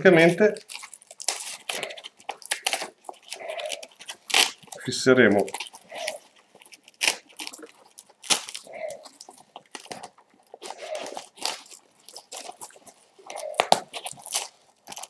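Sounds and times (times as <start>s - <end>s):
nylon pouch rustling: 0.0s - 15.0s.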